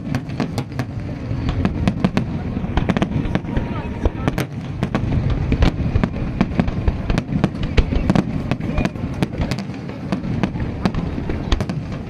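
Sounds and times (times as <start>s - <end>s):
fireworks cracks and bangs: 0.0s - 12.0s
rumble of distant detonations: 0.0s - 12.0s.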